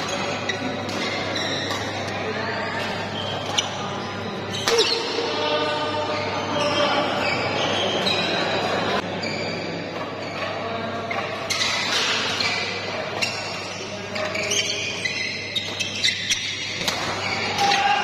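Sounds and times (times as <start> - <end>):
shoes squeaking on court: 0.0 - 5.2, 6.0 - 17.6
crowd chatter echoing: 0.0 - 18.0.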